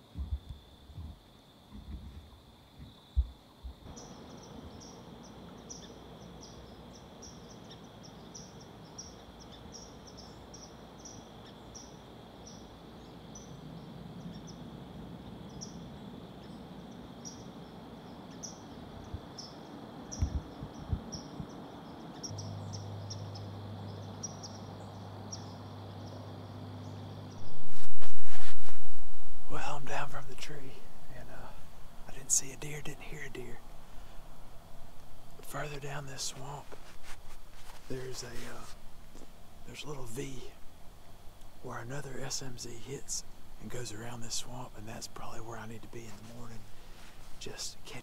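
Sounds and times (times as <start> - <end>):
faint hiss: 0.0 - 48.0
insect chirping: 0.0 - 48.0
low steady hum: 0.0 - 48.0.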